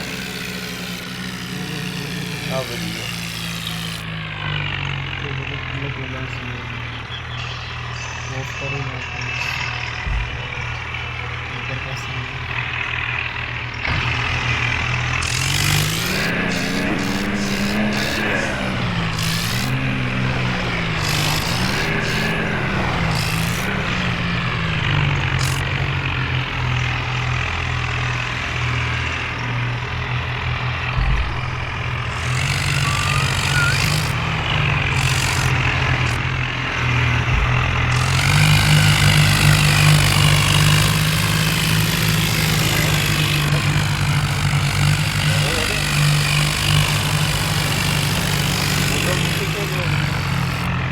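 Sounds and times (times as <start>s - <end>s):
diesel engines under load: 0.0s - 50.9s.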